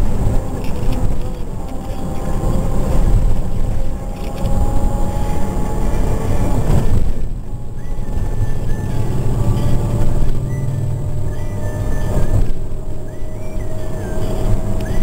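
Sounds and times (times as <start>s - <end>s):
car engine rumble from inside: 0.0s - 15.0s.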